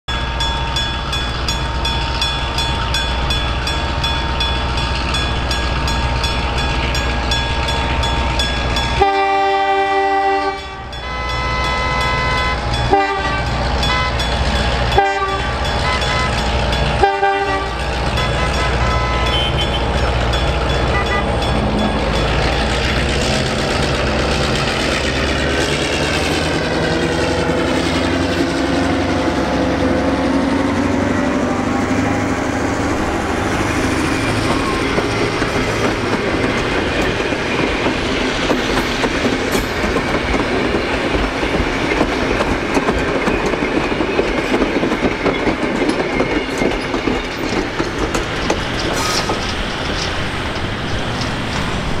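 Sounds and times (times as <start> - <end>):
locomotive engine passing: 0.1 - 52.0
wheels clacking over rail joints: 0.1 - 52.0.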